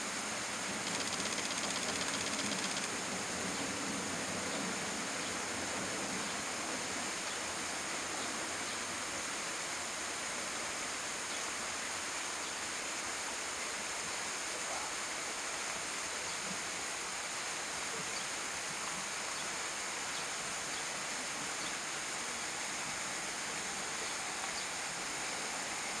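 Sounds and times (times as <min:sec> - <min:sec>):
even hiss: 0:00.0 - 0:26.0.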